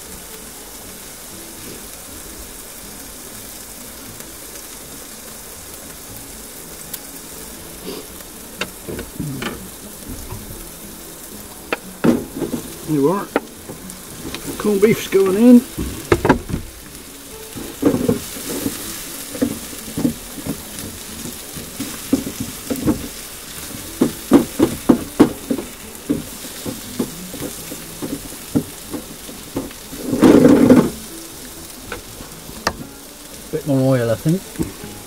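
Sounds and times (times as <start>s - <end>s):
meat sizzling in a pan: 0.0s - 35.0s
wooden spatula stirring in pan: 0.0s - 35.0s.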